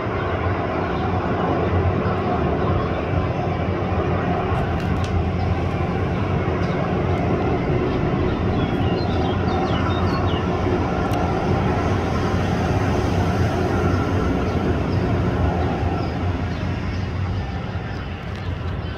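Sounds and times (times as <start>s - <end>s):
jet engines on runway: 0.0s - 18.9s.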